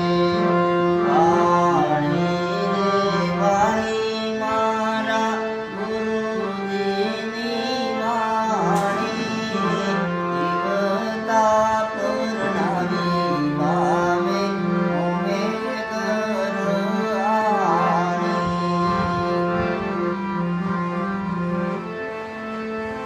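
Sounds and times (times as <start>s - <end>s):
harmonium melody: 0.0s - 23.0s.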